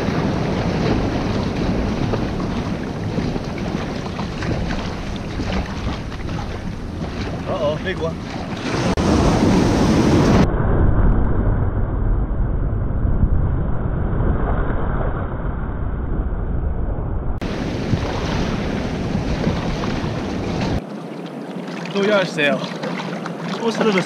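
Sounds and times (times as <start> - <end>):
surf breaking and churning: 0.0 - 16.1, 17.4 - 24.0
wind buffeting microphone: 0.0 - 20.8.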